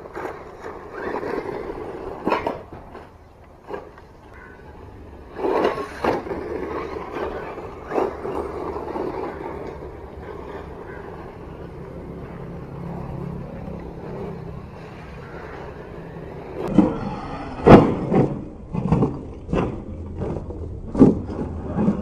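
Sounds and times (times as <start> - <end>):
toy truck motor rumbling: 0.0 - 4.0, 4.8 - 22.0.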